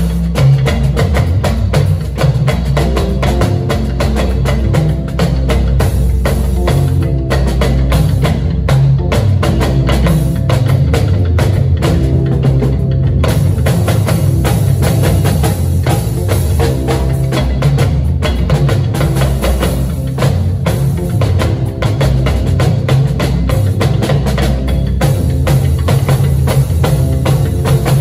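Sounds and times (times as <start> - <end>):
drum kit and talking drums: 0.0 - 28.0.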